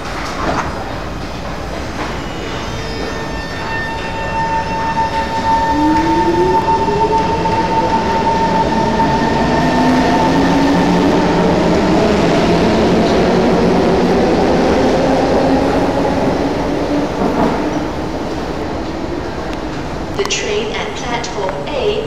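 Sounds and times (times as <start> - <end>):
wheels rumbling on rail: 0.0 - 20.2.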